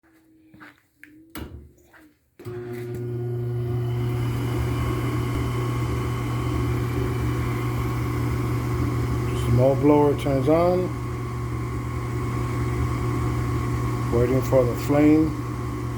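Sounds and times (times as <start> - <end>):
furnace blower motor humming: 2.4 - 15.9.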